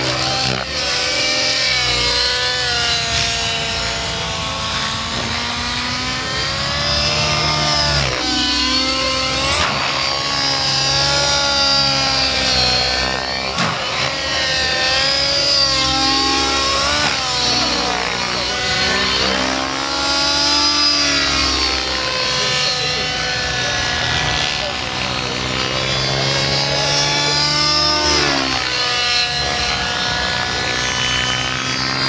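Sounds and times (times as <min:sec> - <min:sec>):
rc helicopter engine and rotor whine: 0:00.0 - 0:32.0.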